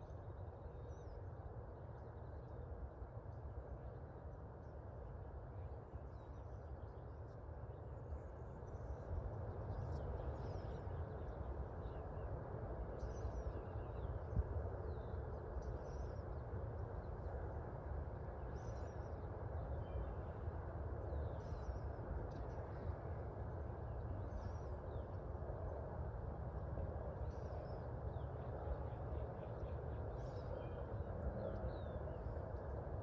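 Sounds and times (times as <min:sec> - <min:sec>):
low outdoor hum: 0:00.0 - 0:33.0.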